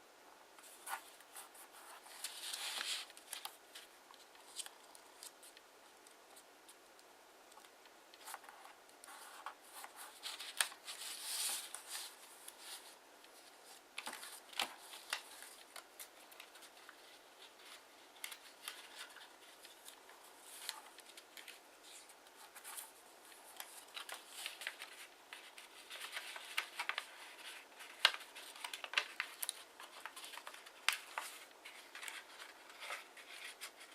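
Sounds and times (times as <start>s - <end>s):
paper rustling and crackling: 0.6s - 5.6s, 7.5s - 33.9s.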